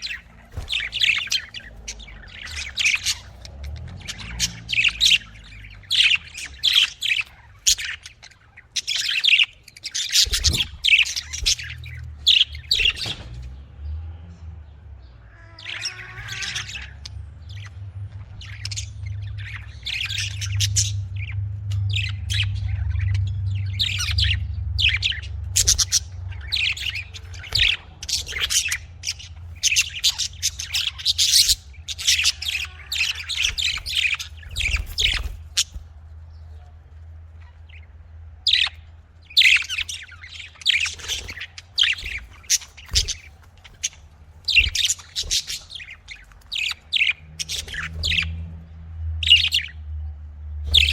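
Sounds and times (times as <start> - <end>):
budgerigars chirping and squawking: 0.0 - 14.0, 14.7 - 50.0, 50.6 - 50.9
steady low hum: 0.0 - 15.4, 16.7 - 50.9.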